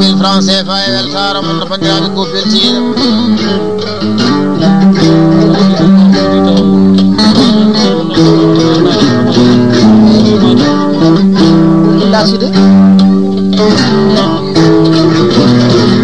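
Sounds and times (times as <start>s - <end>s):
plucked string instrumental music: 0.0s - 16.0s.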